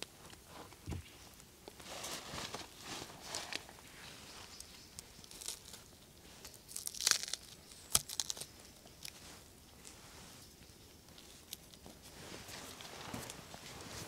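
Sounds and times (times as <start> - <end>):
crackling and rustling of wooden pole: 0.0 - 14.0.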